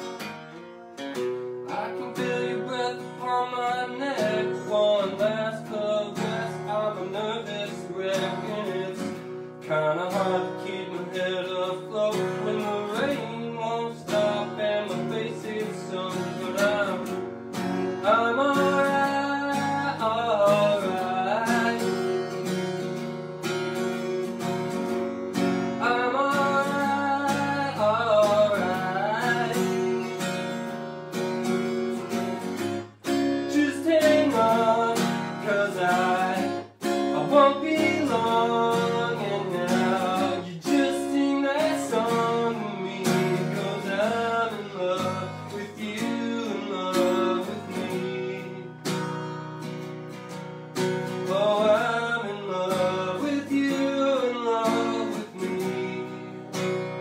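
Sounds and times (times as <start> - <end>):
acoustic guitar strumming: 0.0 - 57.0
person singing: 1.6 - 22.4, 25.7 - 30.6, 33.1 - 49.0, 51.2 - 57.0.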